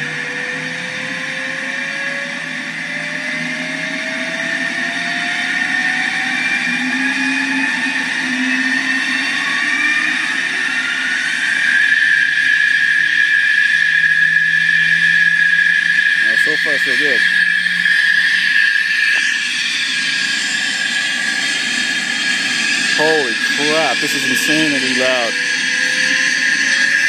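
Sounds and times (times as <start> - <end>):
jet turbine whine: 0.0 - 27.0.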